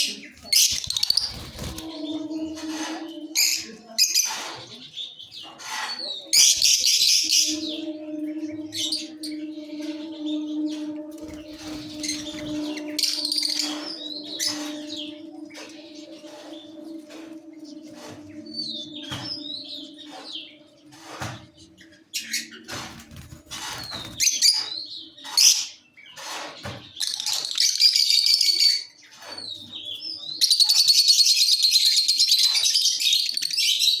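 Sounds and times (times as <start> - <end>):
lovebirds chirping and chattering: 0.0 - 34.0.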